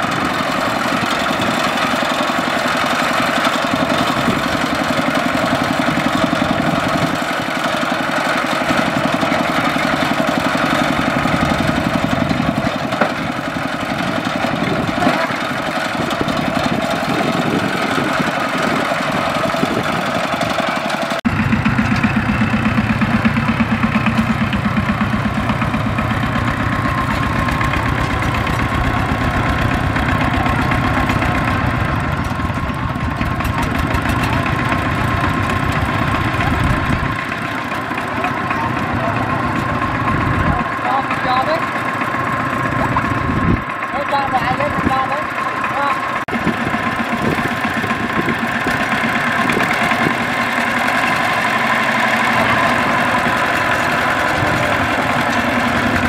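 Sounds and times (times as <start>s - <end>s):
diesel tractor engine running: 0.0s - 56.0s
lower-pitched tractor engine: 0.0s - 56.0s.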